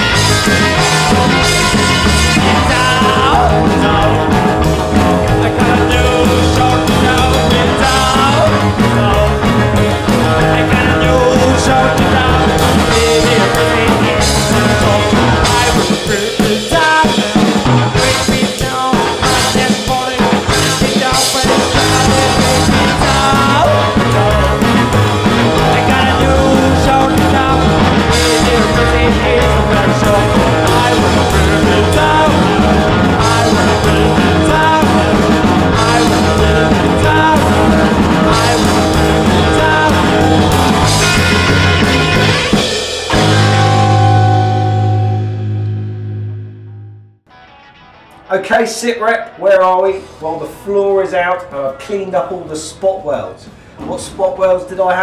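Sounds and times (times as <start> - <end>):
live rock and roll band music: 0.0 - 55.0.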